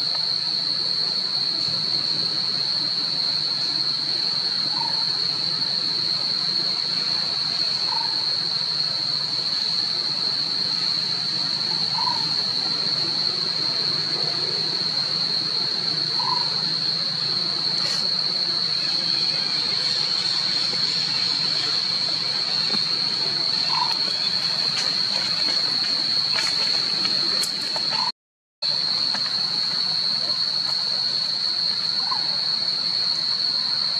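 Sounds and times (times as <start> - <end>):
forest background hiss: 0.0 - 33.9
high-pitched insect drone: 0.2 - 33.9.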